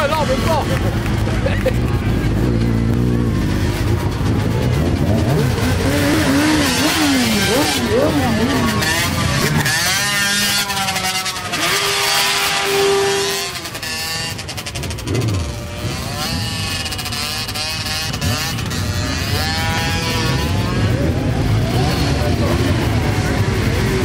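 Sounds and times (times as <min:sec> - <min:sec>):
motorcycles riding past revving: 0:00.0 - 0:24.0.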